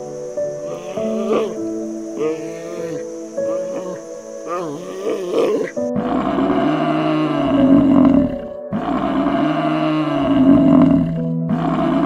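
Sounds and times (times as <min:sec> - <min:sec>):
background music: 0:00.0 - 0:12.0
buffalo bellowing: 0:00.6 - 0:12.0.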